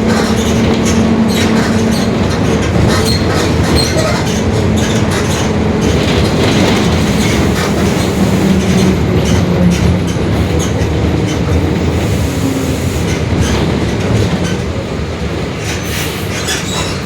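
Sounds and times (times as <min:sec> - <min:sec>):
bus engine running: 0:00.0 - 0:16.7.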